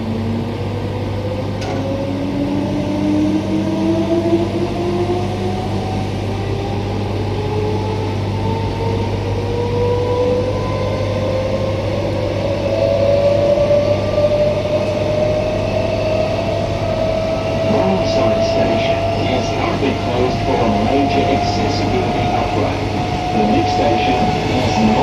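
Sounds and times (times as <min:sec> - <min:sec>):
electric train traction whine: 0:00.0 - 0:25.0.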